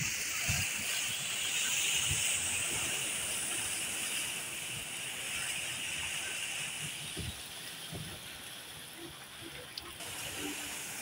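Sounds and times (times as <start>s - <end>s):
floodwater running across street: 0.0s - 11.0s
heavy rain hissing: 0.0s - 11.0s.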